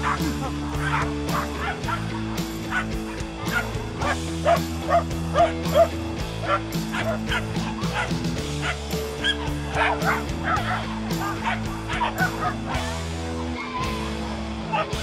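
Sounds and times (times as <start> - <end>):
dog barking: 0.0 - 2.1, 2.7 - 12.8
background music with sustained chords: 0.0 - 15.0.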